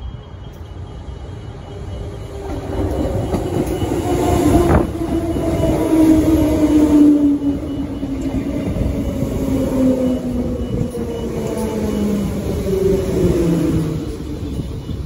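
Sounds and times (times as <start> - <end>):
electric train motor whine: 0.0 - 15.0
wheels rumbling on rail: 0.0 - 15.0.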